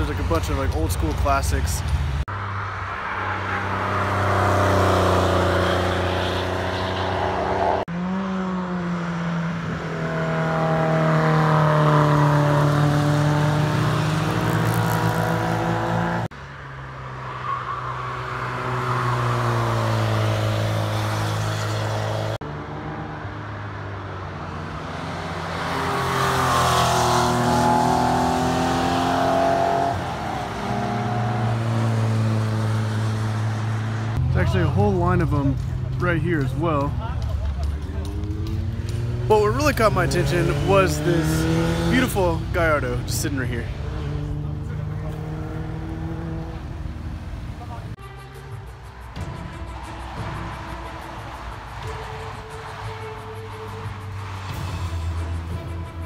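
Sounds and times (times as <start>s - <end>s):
car engines revving past: 0.0s - 56.0s.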